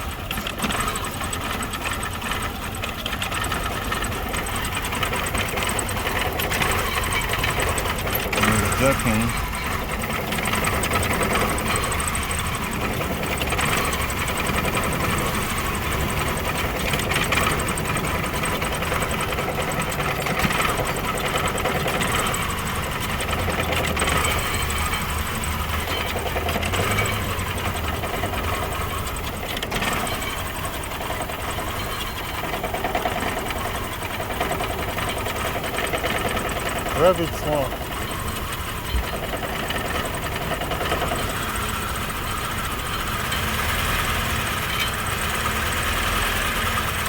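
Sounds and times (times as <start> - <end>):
car engine idling roughly: 0.0 - 47.0.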